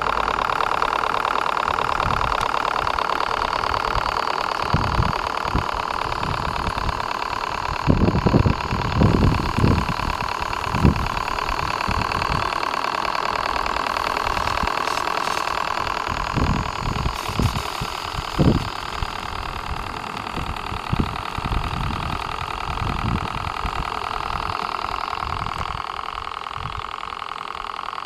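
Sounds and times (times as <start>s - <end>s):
steam engine chuffing clatter: 0.0s - 28.0s.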